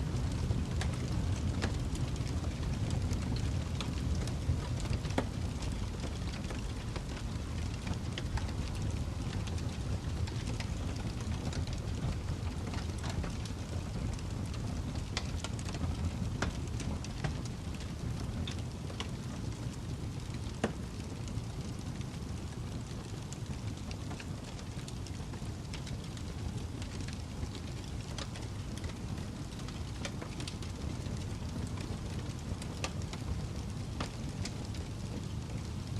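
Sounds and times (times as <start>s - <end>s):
fire crackling and popping: 0.0s - 35.9s
fire rumbling: 0.0s - 35.9s.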